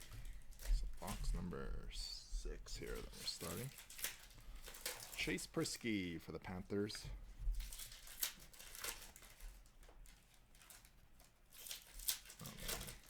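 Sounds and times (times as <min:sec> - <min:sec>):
card wrappers crinkling and rustling: 0:00.0 - 0:01.9, 0:02.7 - 0:13.0.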